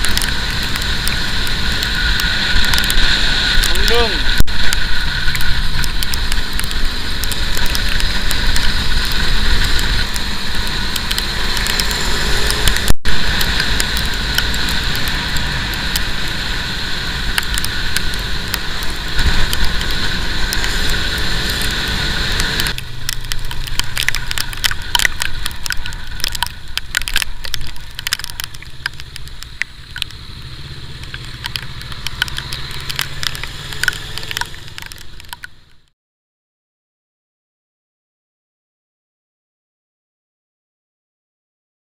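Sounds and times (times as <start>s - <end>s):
motorcycle engine running: 0.0s - 35.9s
road and wind noise: 0.0s - 35.9s
scattered crackles and clicks: 0.0s - 35.9s.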